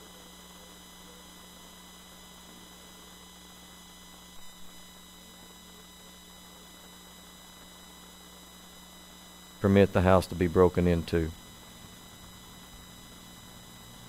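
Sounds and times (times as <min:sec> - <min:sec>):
electrical mains hum and hiss: 0:00.0 - 0:14.0.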